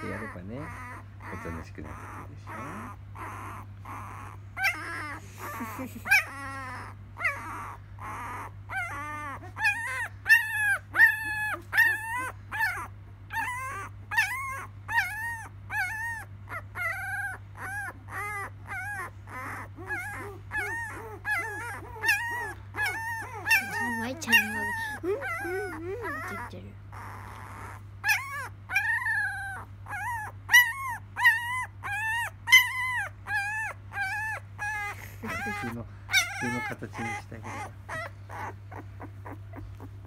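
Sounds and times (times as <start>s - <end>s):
puppy whimpering: 0.0s - 40.0s.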